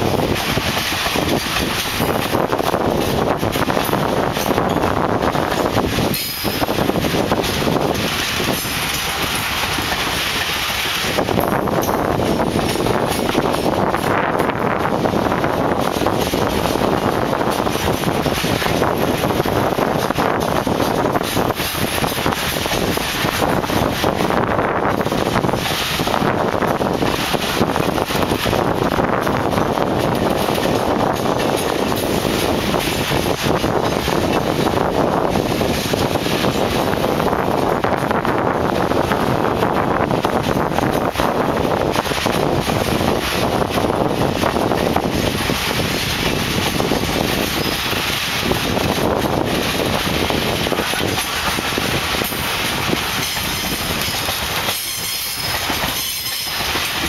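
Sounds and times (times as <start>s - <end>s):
freight wagons clattering on rails: 0.0s - 57.0s
wind noise on microphone: 0.0s - 57.0s.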